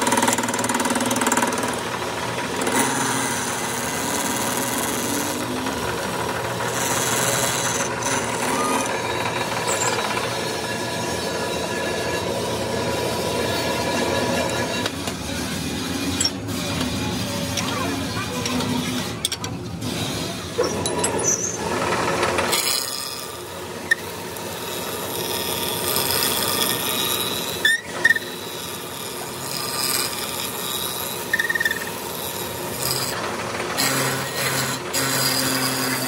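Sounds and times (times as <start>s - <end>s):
grinding wheel grinding steel: 0.0s - 36.0s.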